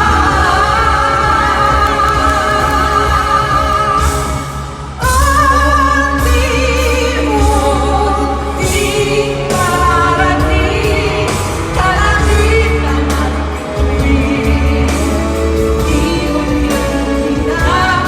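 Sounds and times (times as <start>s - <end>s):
pop band with heavy bass: 0.0s - 18.0s
woman singing: 0.0s - 18.0s.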